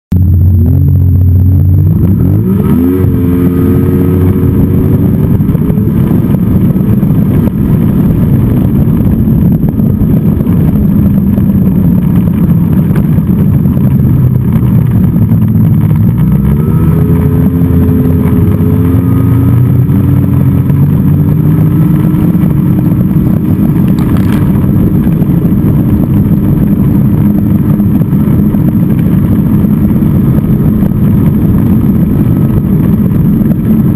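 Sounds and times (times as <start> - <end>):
snowmobile engine running: 0.1 - 33.9.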